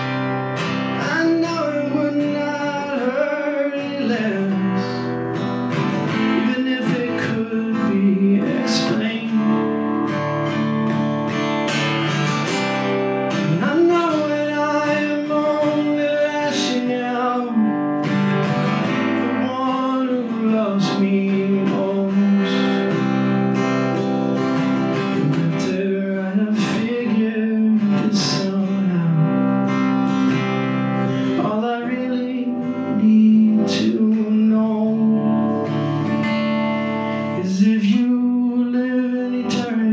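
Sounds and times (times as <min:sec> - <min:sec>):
acoustic guitar strumming: 0:00.0 - 0:39.9
sliding guitar melody: 0:00.0 - 0:39.9.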